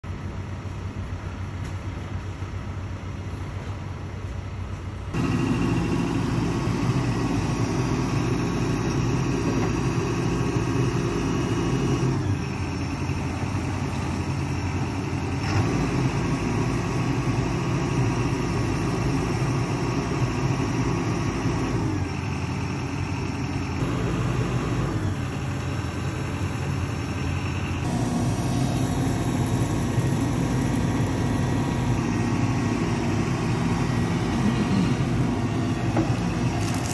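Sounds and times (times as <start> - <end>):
diesel engine of backhoe working: 0.0 - 36.9.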